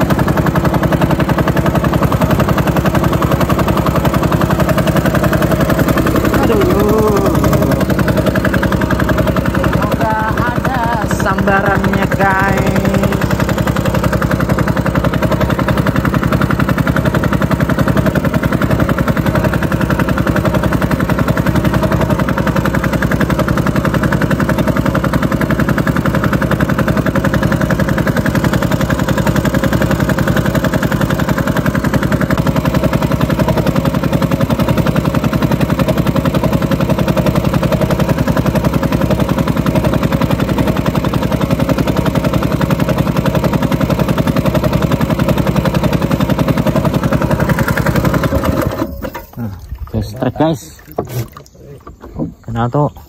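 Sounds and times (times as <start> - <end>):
small boat engine running: 0.0 - 53.0.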